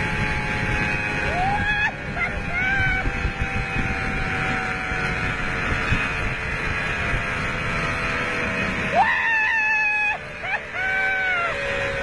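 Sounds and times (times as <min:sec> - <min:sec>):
wind rushing over microphone: 0:00.0 - 0:10.4
zipline trolley whirring: 0:00.0 - 0:12.0.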